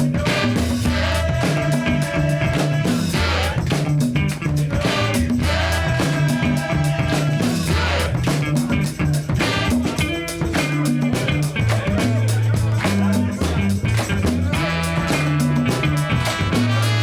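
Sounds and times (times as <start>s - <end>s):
upbeat funk-rock music: 0.0s - 17.0s.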